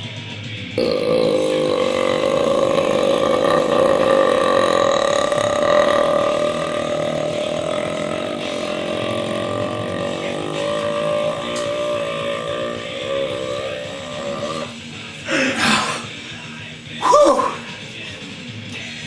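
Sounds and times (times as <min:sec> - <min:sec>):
man burping: 0:00.8 - 0:16.1.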